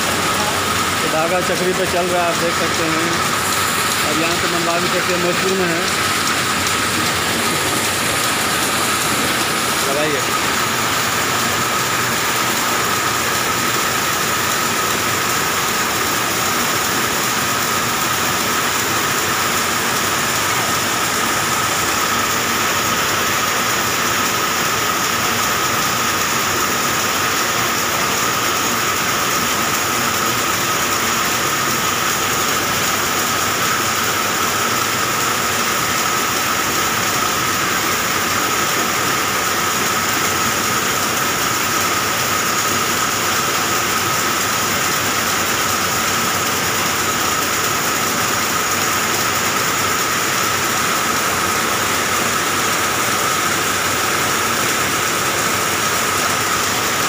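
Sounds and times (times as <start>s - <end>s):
high machine whine: 0.0s - 57.0s
spinning machine whirring: 0.0s - 57.0s.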